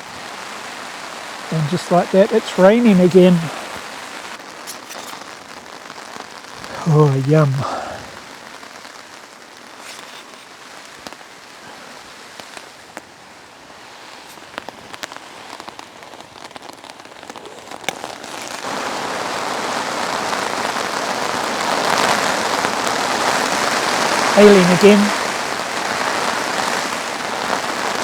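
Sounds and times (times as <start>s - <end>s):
raindrops tapping close by: 0.0s - 13.2s, 13.8s - 28.0s
steady rain falling: 0.0s - 28.0s.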